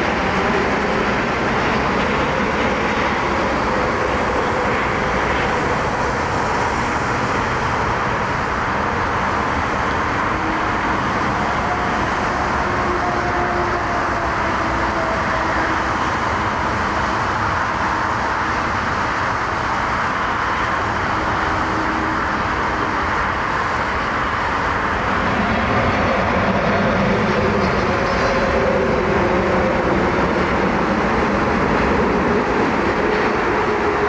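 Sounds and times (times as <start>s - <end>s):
landing airliner roar: 0.0s - 34.0s
road traffic noise: 0.0s - 34.0s.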